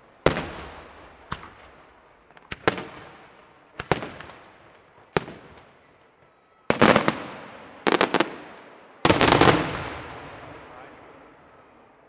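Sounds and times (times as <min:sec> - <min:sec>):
crackling fireworks reports: 0:00.0 - 0:12.0
fireworks bangs: 0:00.2 - 0:11.3.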